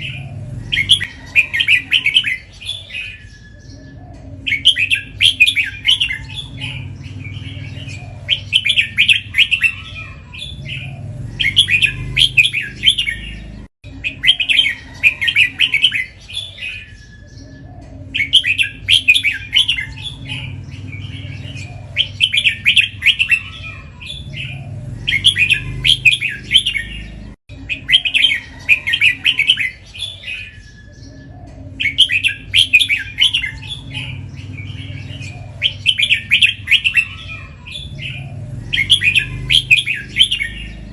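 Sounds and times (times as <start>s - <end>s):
bird singing warbling song: 0.0s - 40.9s.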